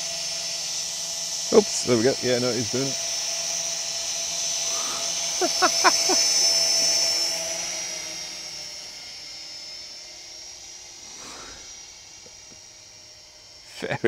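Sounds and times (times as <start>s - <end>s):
toy drone motors whining: 0.0s - 14.0s.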